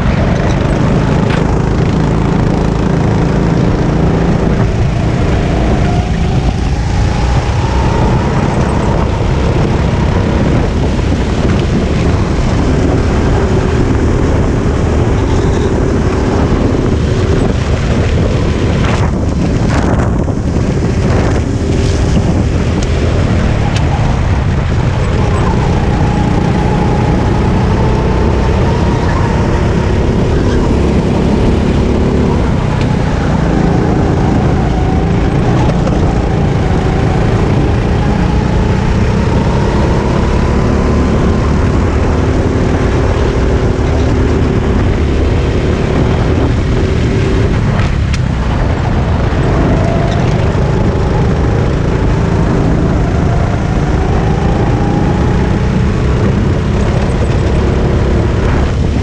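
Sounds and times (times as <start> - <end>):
kart engine running hard: 0.0 - 59.0
wind noise on microphone: 0.0 - 59.0.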